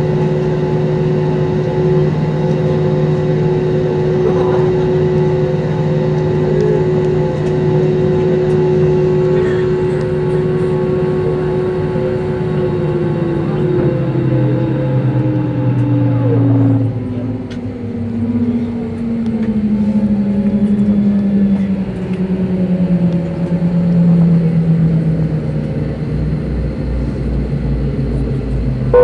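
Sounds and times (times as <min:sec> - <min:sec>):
jet engine whine spooling down: 0:00.0 - 0:29.0
low hum: 0:00.0 - 0:29.0.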